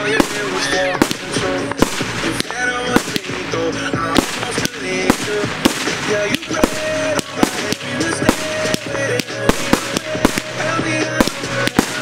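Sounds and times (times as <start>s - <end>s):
fireworks bursting and launching: 0.0s - 12.0s
music with long held notes: 0.0s - 12.0s.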